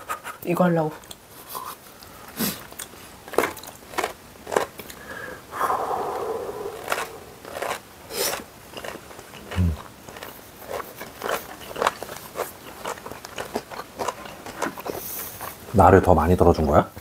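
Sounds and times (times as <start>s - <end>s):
people chewing food: 1.0s - 16.9s.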